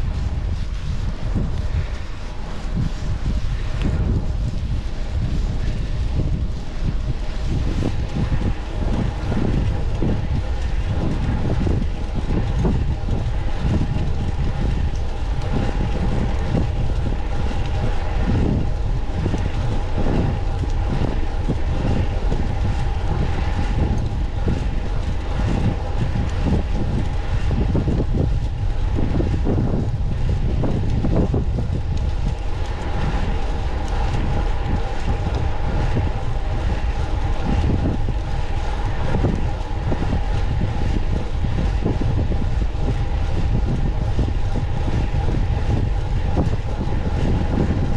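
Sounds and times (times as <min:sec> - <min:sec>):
bike road noise: 0:00.0 - 0:47.9
faint high hum: 0:00.0 - 0:47.9
wind on microphone: 0:00.0 - 0:47.9.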